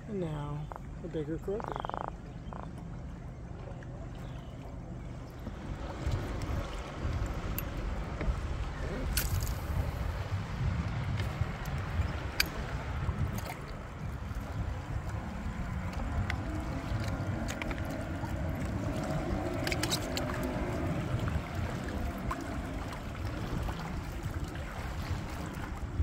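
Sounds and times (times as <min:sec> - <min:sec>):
water lapping against kayak hull: 0:00.0 - 0:26.0
wind buffeting microphone: 0:00.0 - 0:26.0.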